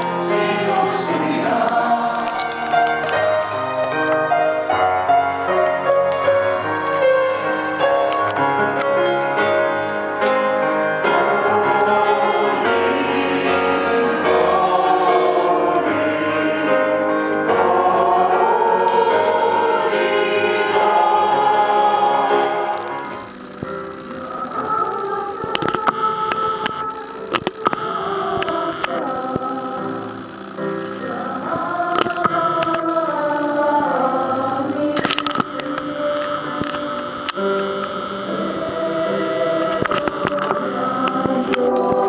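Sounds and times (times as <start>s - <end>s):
choir singing a hymn: 0.0s - 42.0s.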